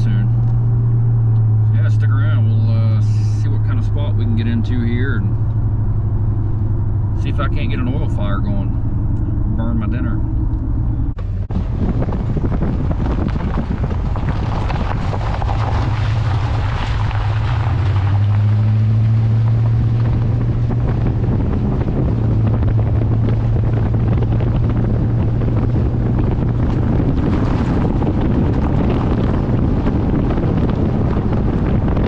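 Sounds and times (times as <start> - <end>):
car engine and road drone: 0.0 - 32.0
wind buffeting microphone: 0.0 - 32.0.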